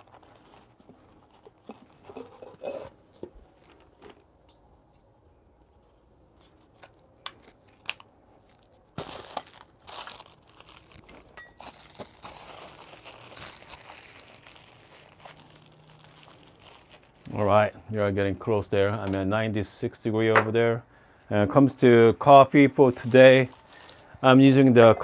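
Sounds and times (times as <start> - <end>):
rustling and crinkling: 0.0 - 17.8, 22.7 - 25.0.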